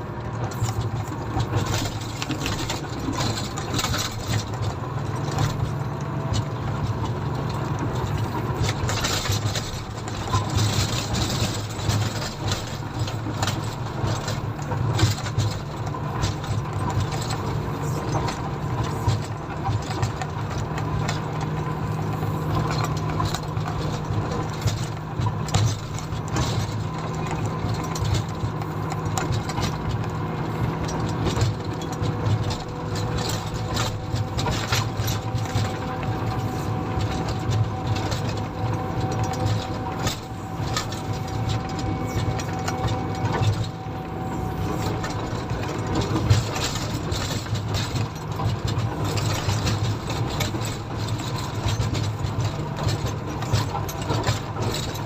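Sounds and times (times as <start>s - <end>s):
diesel engine droning: 0.0s - 55.0s
machine rattling and clanking: 0.0s - 55.0s.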